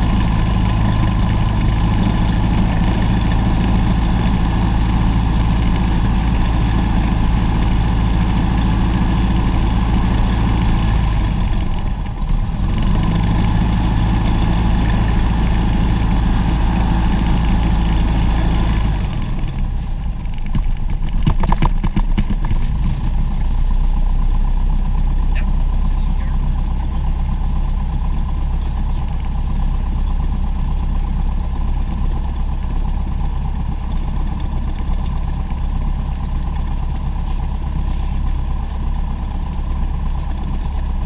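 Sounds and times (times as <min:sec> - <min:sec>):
propeller aircraft engine: 0:00.0 - 0:41.0.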